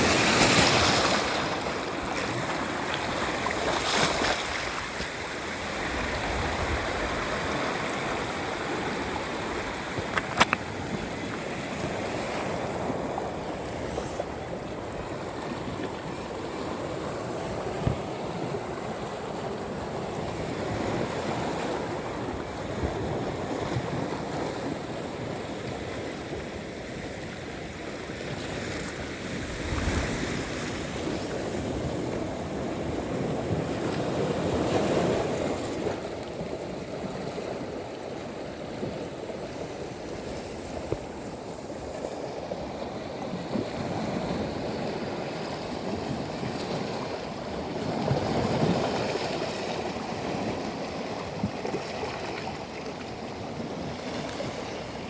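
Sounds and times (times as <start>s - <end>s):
sea surf on sandy beach: 0.0s - 55.0s.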